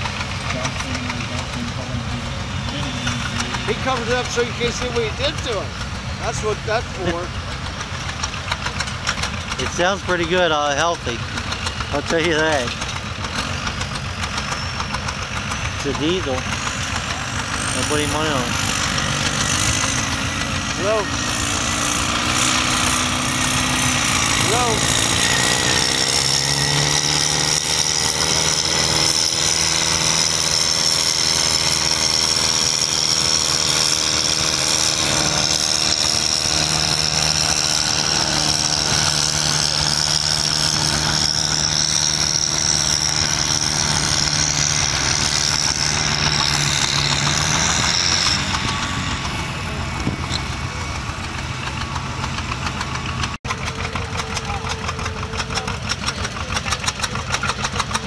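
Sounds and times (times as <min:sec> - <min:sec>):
high engine whine: 0:00.0 - 0:58.0
tractor engine under load: 0:00.0 - 0:58.0.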